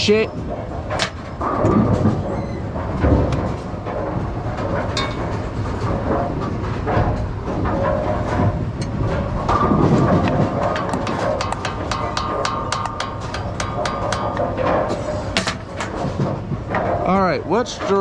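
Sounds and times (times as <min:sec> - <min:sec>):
bowling pinsetter machinery clatter: 0:00.0 - 0:18.0.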